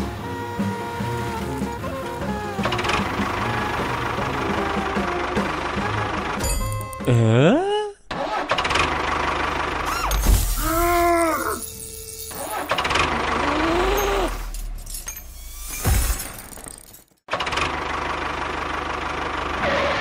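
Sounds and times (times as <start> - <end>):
tractor engine rumbling: 0.0 - 15.6, 17.3 - 20.0.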